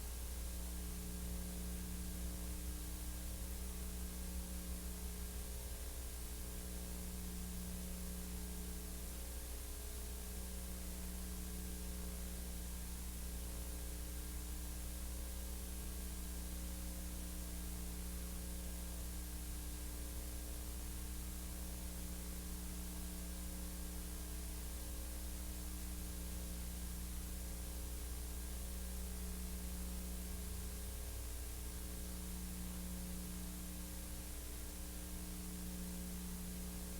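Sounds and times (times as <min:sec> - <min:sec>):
steady electrical hum: 0:00.0 - 0:36.9.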